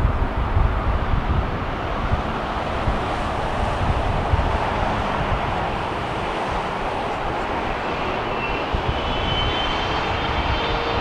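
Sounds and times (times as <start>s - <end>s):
distant jet engines roaring: 0.0s - 11.0s
wind gusting on microphone: 0.0s - 11.0s.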